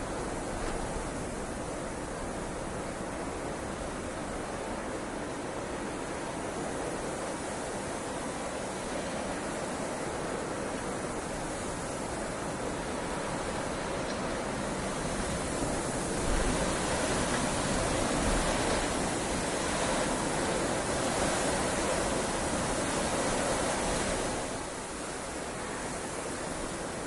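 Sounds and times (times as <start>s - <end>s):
heavy rain hiss: 0.0s - 27.0s.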